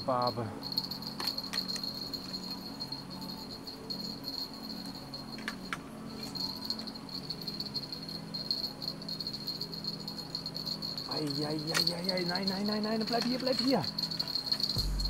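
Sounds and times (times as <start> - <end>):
bite bell jingling: 0.0 - 15.0
crickets chirring: 0.0 - 15.0.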